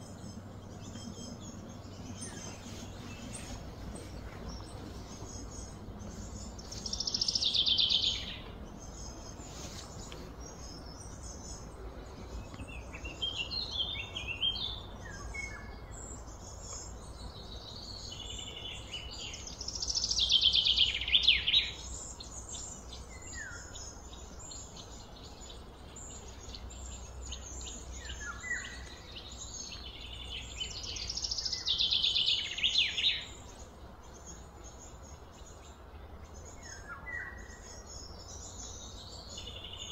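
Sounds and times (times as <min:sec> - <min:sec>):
steady low hum: 0:00.0 - 0:32.6
bird chirps: 0:00.0 - 0:39.9.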